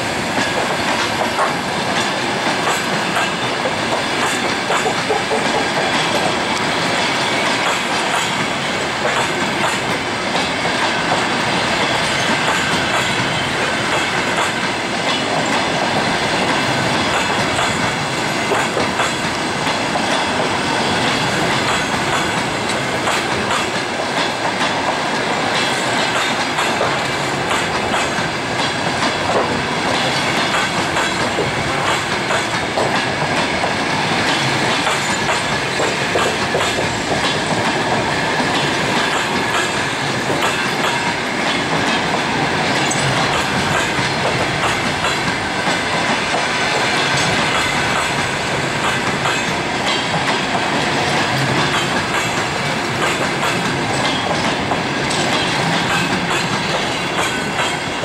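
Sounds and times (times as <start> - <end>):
train rumbling past: 0.0 - 58.0.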